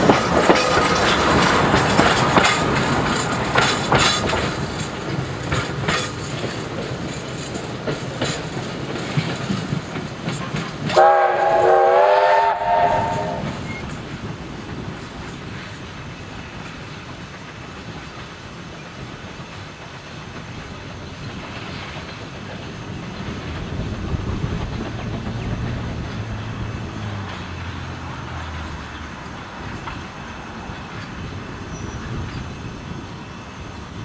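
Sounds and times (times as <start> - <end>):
wheels clicking over rail joints: 0.0 - 11.8, 12.6 - 34.0
train carriages rolling on rails: 0.0 - 34.0.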